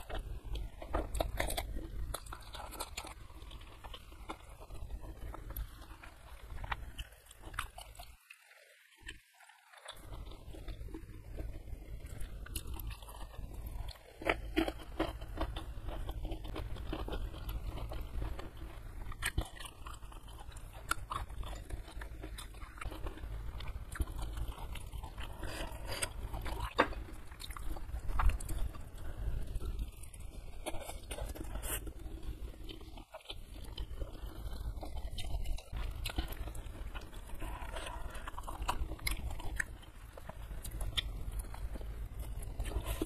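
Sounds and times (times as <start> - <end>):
steady low hum: 0.0 - 8.2, 9.8 - 43.0
person chewing food: 0.0 - 43.0.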